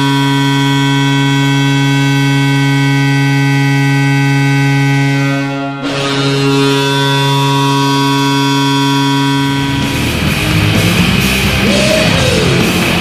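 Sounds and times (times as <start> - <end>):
goal horn blast: 0.0 - 13.0
loud rock music: 0.0 - 13.0.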